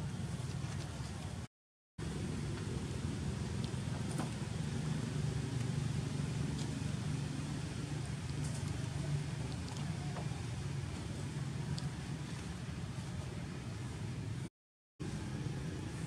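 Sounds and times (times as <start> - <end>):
distant vehicle engine rumble: 0.0 - 16.0.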